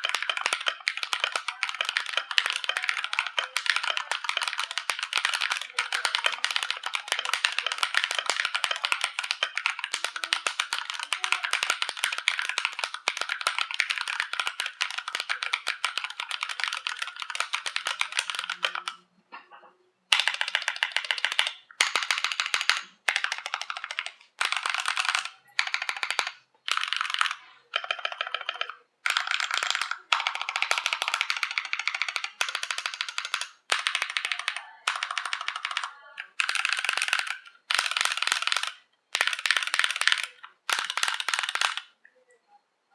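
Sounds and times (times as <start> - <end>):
fast typing on mechanical keyboard: 0.0 - 19.0, 20.1 - 42.0.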